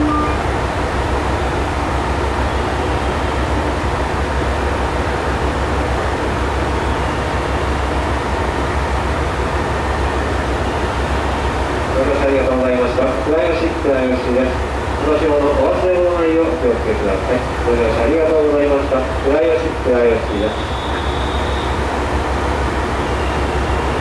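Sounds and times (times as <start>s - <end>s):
diesel engines idling: 0.0s - 24.0s.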